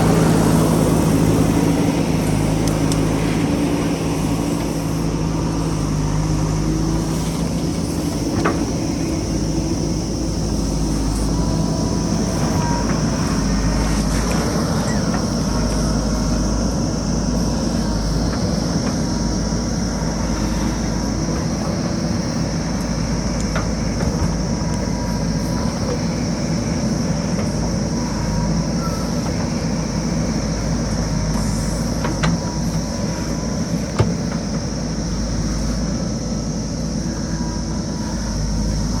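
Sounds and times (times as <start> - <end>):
diesel engine rumbling: 0.0 - 39.0.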